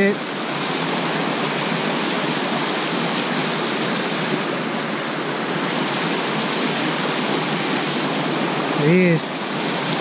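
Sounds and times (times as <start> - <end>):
water splashing over rocks: 0.0 - 10.0.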